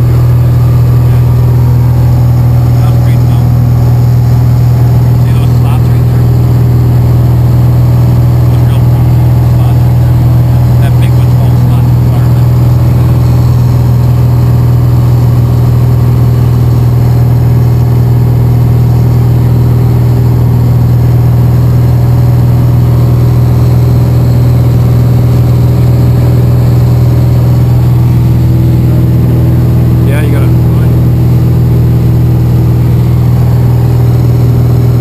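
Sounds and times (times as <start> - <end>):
propeller plane engine drone: 0.0 - 35.0.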